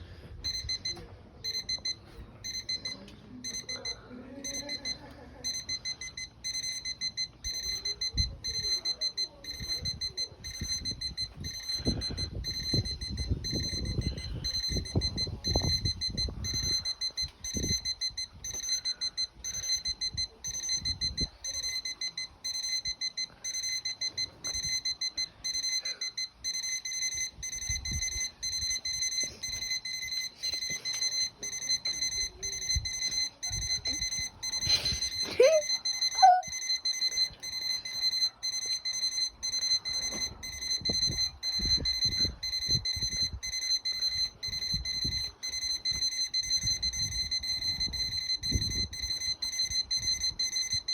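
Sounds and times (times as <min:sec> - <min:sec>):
alarm clock beeping: 0:00.0 - 0:50.9.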